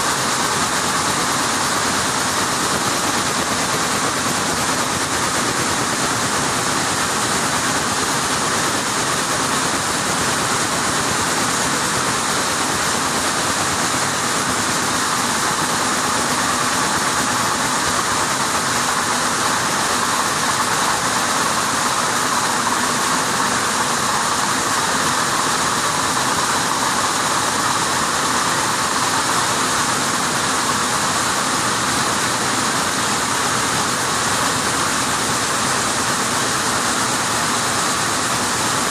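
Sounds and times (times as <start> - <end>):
weaving looms running: 0.0 - 38.9.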